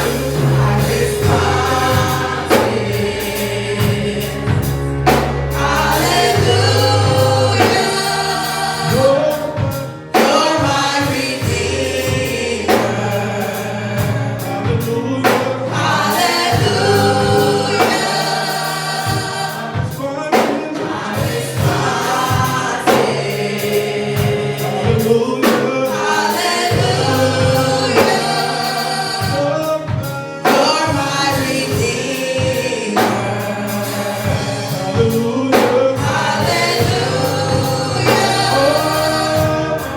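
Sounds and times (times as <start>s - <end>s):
bass: 0.0s - 39.9s
choir singing gospel music: 0.0s - 39.9s
steady drum beat: 0.0s - 39.9s.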